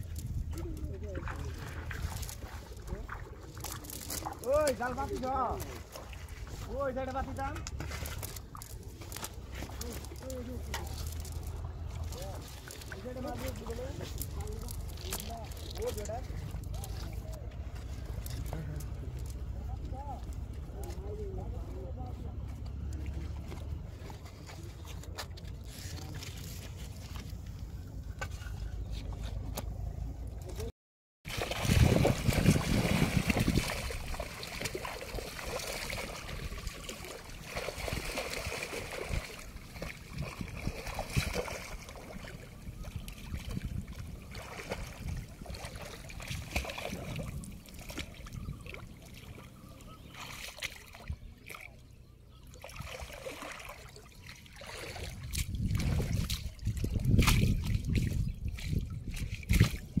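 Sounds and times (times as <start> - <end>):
trickling water: 0.0 - 28.6, 31.3 - 60.0
water splashing and sloshing: 0.0 - 60.0.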